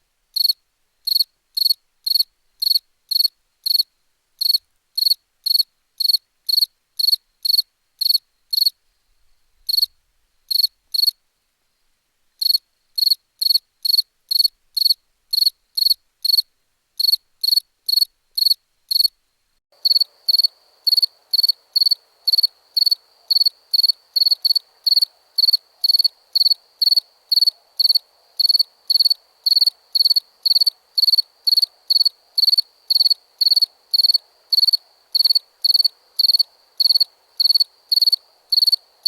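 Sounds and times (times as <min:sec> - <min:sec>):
faint background hiss: 0:00.0 - 0:39.0
crickets chirping: 0:00.4 - 0:08.8, 0:10.5 - 0:11.2, 0:12.4 - 0:19.2, 0:19.8 - 0:39.0.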